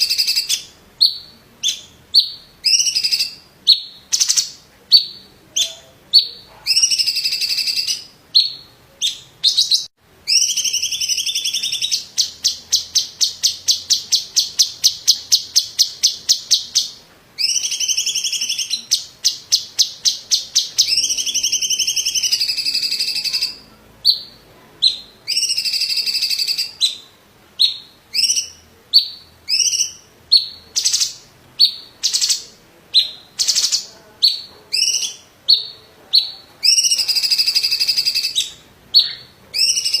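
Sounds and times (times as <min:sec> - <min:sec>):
bird singing loudly: 0:00.0 - 0:40.0.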